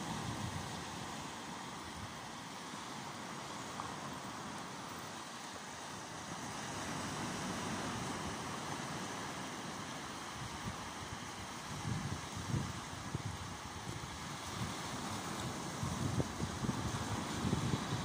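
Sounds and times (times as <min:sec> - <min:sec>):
wind rumbling on microphone: 0:00.0 - 0:05.3, 0:06.3 - 0:18.0
waves washing on sand: 0:00.0 - 0:18.0.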